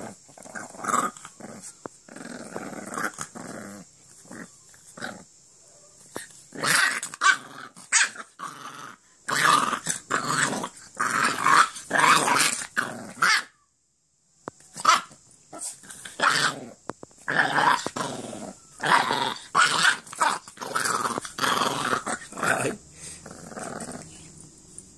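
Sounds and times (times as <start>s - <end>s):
puppy growling: 0.0s - 5.3s, 6.2s - 13.5s, 14.8s - 24.5s.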